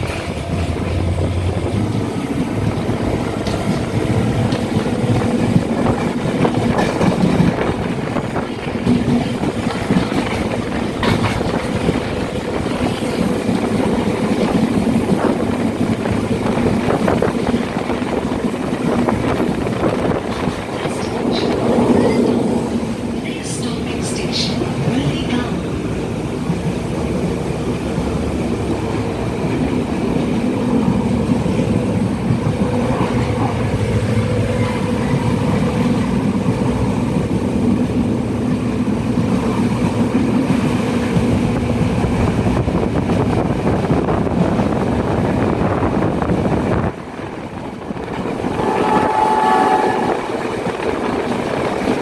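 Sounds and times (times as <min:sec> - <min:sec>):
train rumbling from inside coach: 0:00.0 - 0:52.0.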